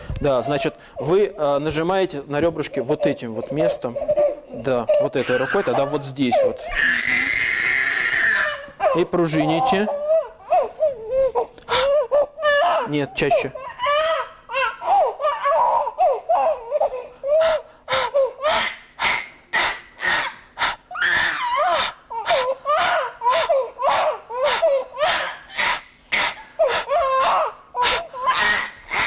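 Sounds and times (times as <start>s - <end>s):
infant crying in short bursts: 4.0s - 29.0s.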